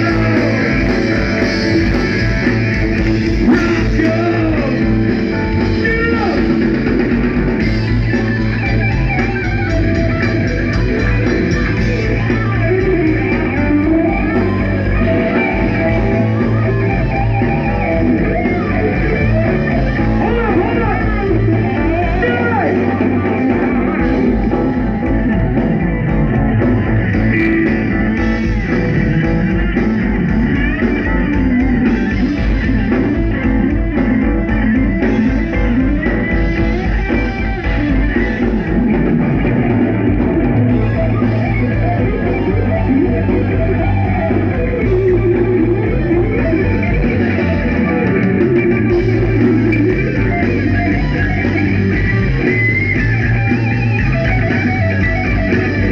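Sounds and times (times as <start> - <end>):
electric guitar bends: 0.0 - 55.9
live rock band playing: 0.0 - 55.9.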